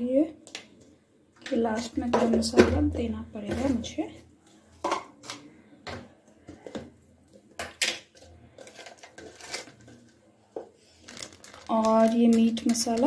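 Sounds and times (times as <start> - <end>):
kitchen items clicking and knocking: 1.4 - 4.0, 4.8 - 13.0.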